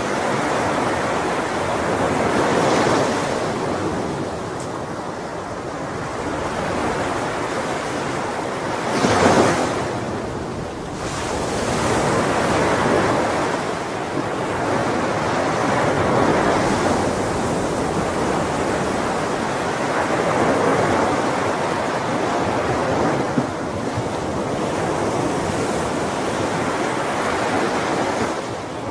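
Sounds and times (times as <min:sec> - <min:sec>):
waves breaking on shore: 0:00.0 - 0:28.9.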